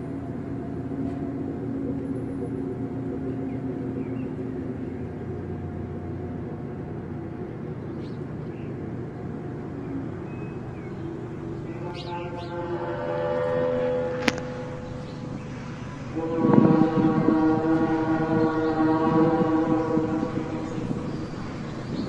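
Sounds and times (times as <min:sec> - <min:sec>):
low droning hum: 0:00.0 - 0:22.0
outdoor background noise: 0:00.0 - 0:22.0.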